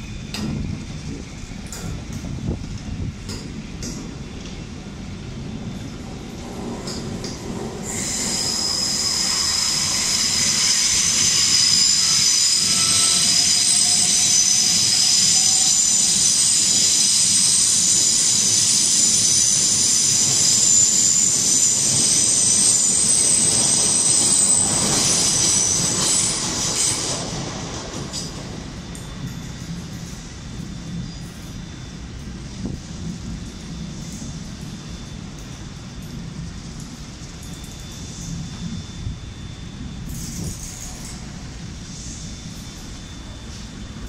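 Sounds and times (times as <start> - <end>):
rumble of train wheels: 0.0 - 44.0
train wheels squealing: 0.0 - 44.0.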